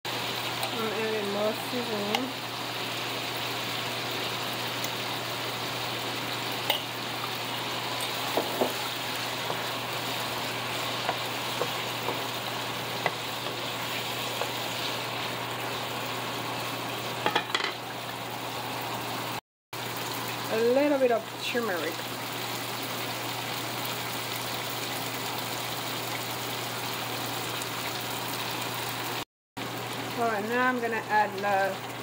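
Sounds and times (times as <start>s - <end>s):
vegetables sizzling in a frying pan: 0.1s - 32.0s.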